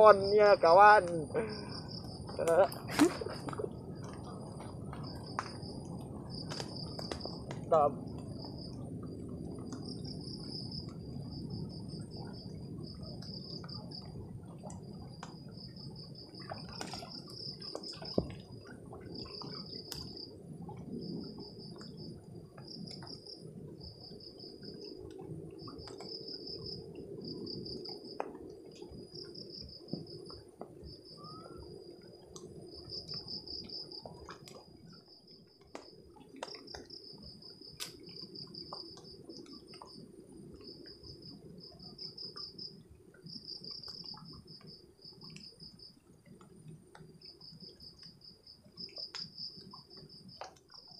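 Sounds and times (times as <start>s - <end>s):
insect chirping trills: 0.0s - 50.9s.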